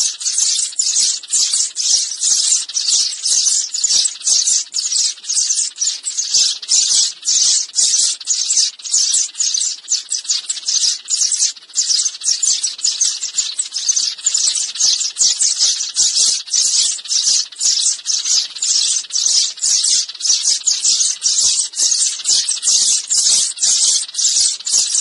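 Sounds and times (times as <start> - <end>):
sparrows chirping: 0.0 - 25.0.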